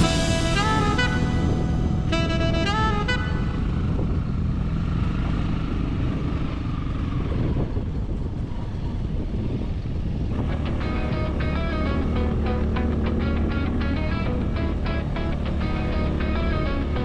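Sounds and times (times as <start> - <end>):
motorbike engine running: 0.0 - 17.0
wind and road noise: 0.0 - 17.0.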